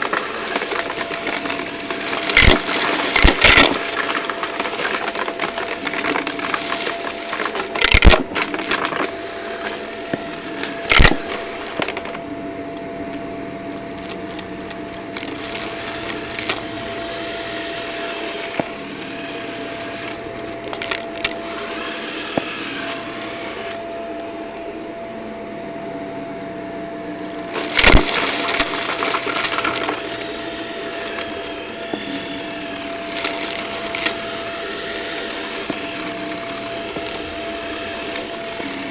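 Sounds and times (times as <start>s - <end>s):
debris crackling through vacuum: 0.0s - 23.8s, 27.2s - 38.9s
loud crunching knocks: 0.0s - 23.8s, 27.3s - 38.9s
vacuum cleaner whining: 0.0s - 38.9s.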